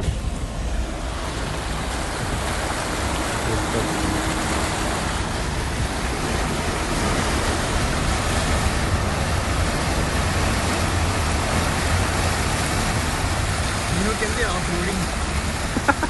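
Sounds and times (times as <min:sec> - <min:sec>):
low vehicle rumble: 0:00.0 - 0:16.0
water rushing around car: 0:00.0 - 0:16.0.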